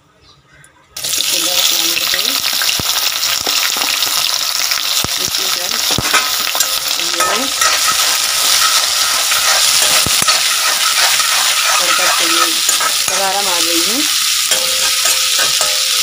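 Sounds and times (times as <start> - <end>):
onions and spices sizzling in oil: 1.0 - 16.0.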